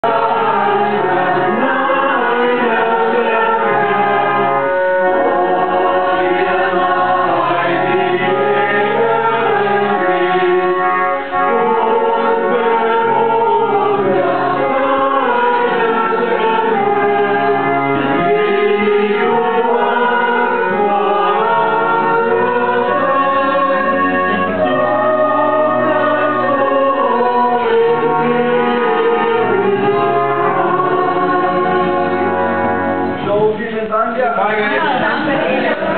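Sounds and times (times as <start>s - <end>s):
group singing a hymn: 0.0s - 33.4s, 34.5s - 35.9s.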